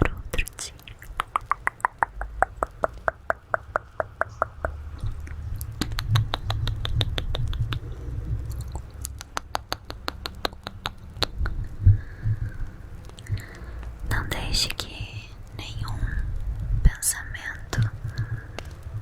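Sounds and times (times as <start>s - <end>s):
low rumble: 0.0s - 19.0s
mouth clicks: 0.0s - 19.0s.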